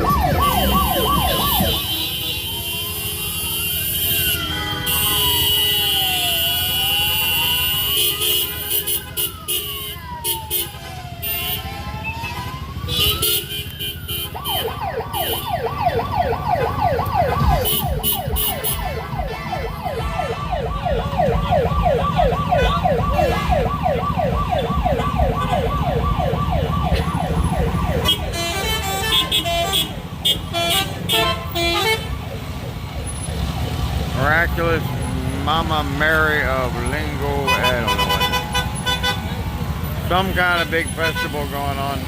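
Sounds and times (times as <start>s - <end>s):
police siren: 0.0s - 42.0s
vehicle engines running: 0.0s - 42.0s.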